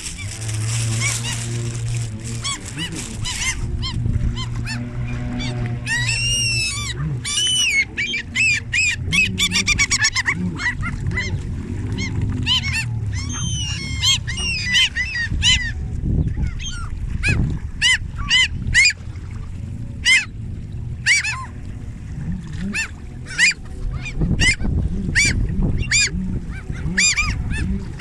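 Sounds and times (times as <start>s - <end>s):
flock of birds calling: 0.0s - 18.9s, 22.7s - 28.0s
steady low rumble: 0.0s - 28.0s.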